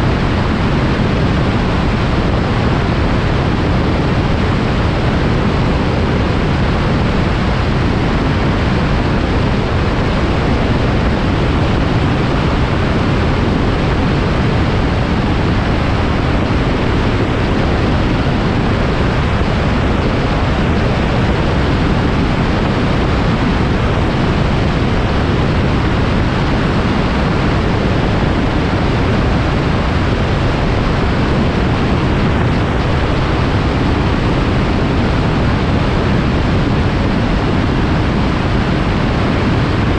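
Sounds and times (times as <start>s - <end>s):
aircraft engine noise: 0.0s - 39.9s
wind rush: 0.0s - 39.9s.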